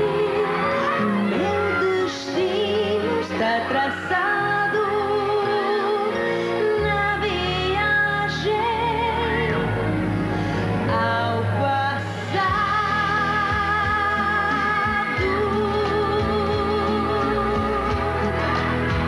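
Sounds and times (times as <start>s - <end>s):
woman singing: 0.0s - 10.0s, 10.8s - 18.8s
instrumental backing track: 0.0s - 19.0s.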